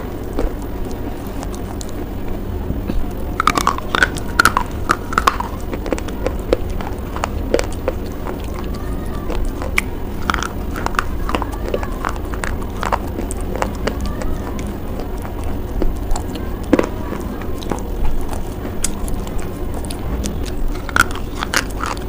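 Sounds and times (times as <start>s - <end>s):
crunching and biting hard bar: 0.0s - 22.0s
low background hum: 0.0s - 22.0s.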